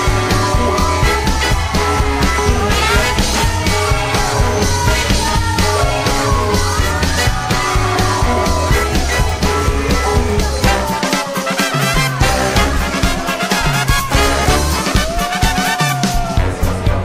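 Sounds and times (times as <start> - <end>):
music with heavy bass: 0.0 - 17.0.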